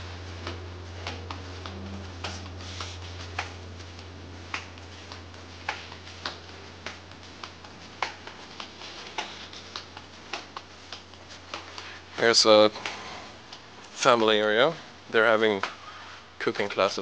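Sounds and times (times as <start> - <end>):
low interior hum: 0.0 - 17.0.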